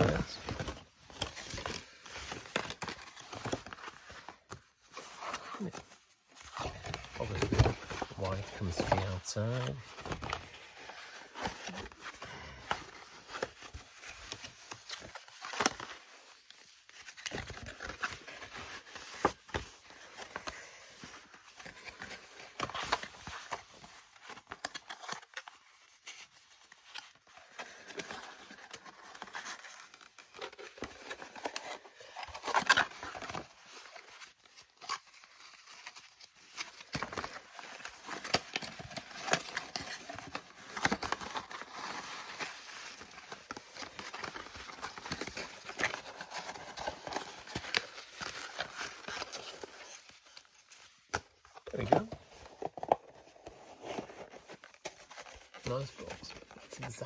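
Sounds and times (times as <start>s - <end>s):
cardboard scraping and rustling: 0.0s - 57.0s.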